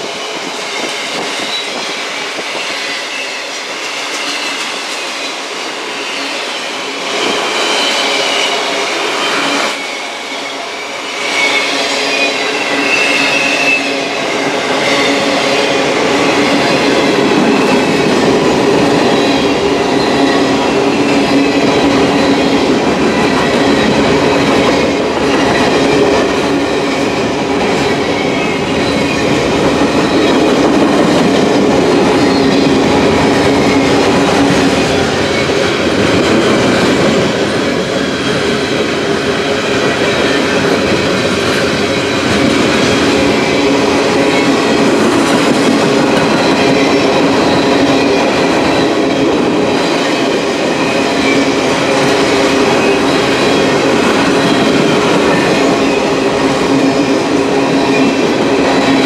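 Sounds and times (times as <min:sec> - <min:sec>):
freight train wheels clattering on rails: 0:00.0 - 0:59.0.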